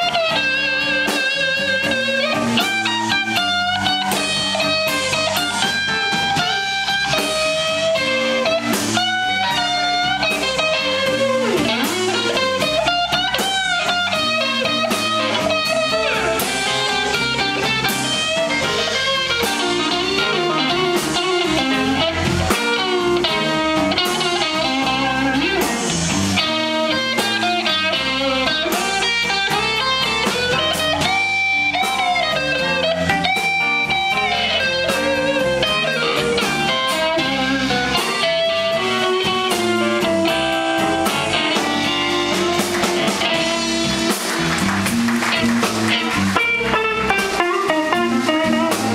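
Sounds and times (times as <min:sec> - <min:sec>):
electric guitar solo: 0:00.0 - 0:48.9
live blues band: 0:00.0 - 0:48.9.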